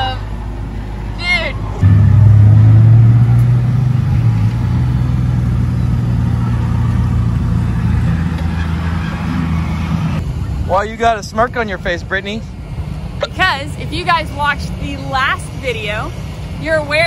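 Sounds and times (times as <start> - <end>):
car engine idling: 0.2 - 17.0.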